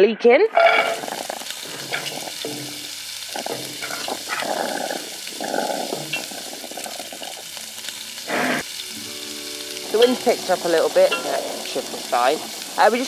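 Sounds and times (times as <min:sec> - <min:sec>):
onions sizzling in oil: 0:00.6 - 0:13.0.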